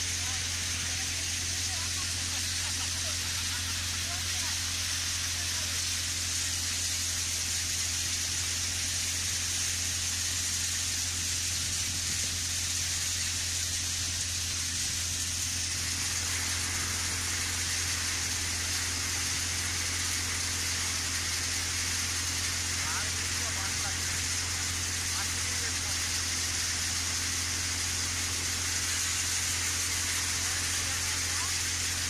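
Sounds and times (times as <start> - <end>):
grain thresher running: 0.0 - 32.0.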